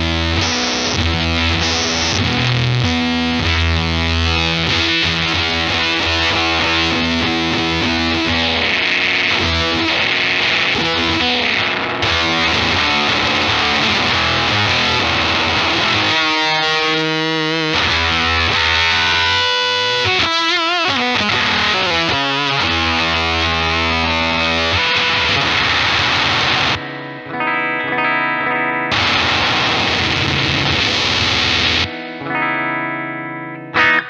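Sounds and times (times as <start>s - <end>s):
distorted electric guitar chords: 0.0s - 34.0s.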